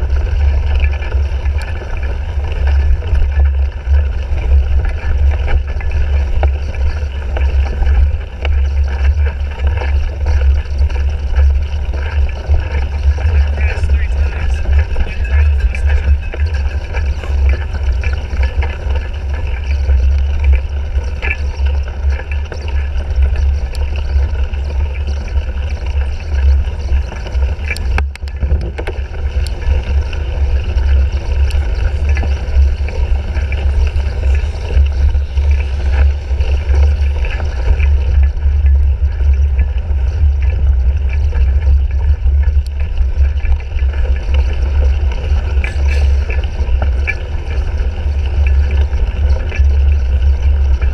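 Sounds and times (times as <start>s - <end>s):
bike clicks and rattles: 0.0s - 50.9s
wind buffeting microphone: 0.0s - 50.9s.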